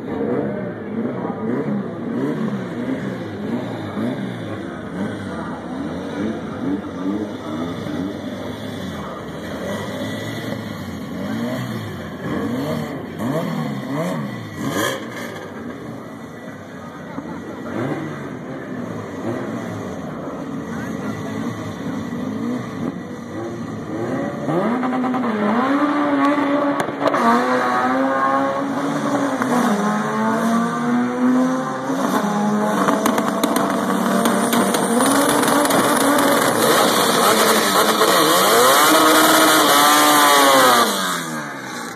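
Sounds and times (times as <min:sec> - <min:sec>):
drag car engine revving: 0:00.0 - 0:41.9.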